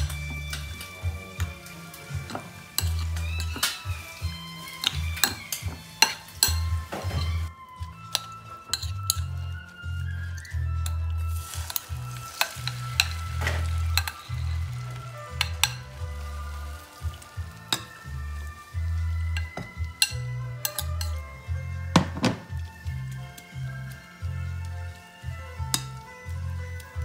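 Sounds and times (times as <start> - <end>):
metal spoon clinking and scraping: 0.0 - 22.0, 22.6 - 27.0
egg mixture sizzling in pan: 0.0 - 27.0.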